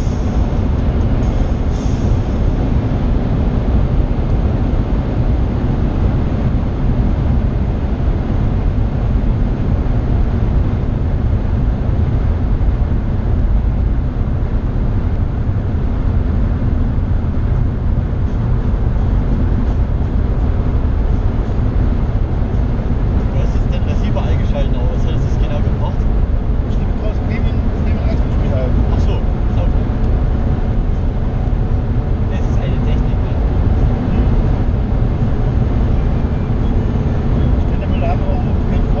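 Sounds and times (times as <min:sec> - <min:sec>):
car engine cruising: 0:00.0 - 0:39.0
tyre road noise: 0:00.0 - 0:39.0
wind noise: 0:00.0 - 0:39.0.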